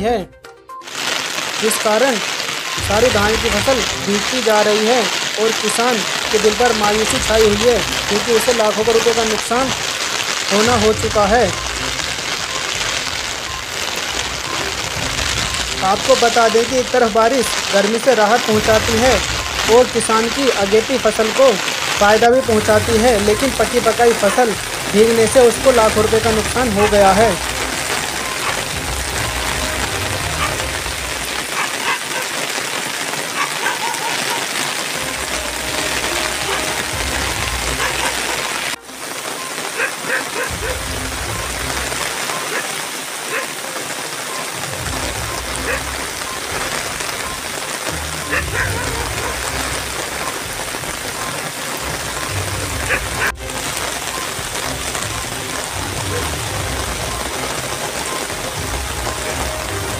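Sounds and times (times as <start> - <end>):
rain falling on water: 0.8 - 59.9.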